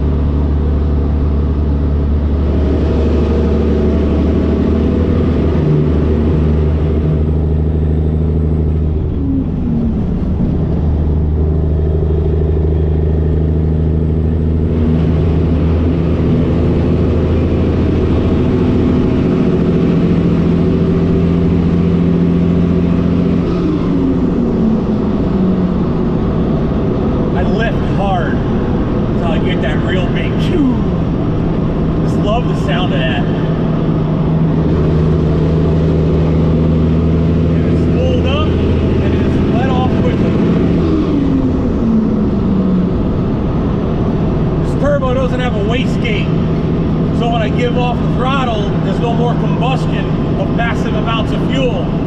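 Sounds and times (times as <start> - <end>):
truck diesel engine running: 0.0 - 52.0.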